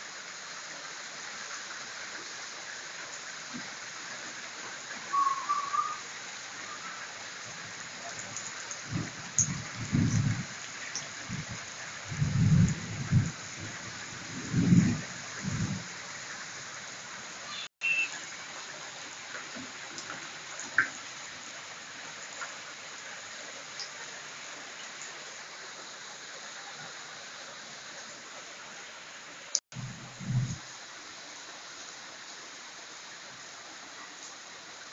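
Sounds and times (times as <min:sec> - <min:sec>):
rain hissing: 0:00.0 - 0:34.9.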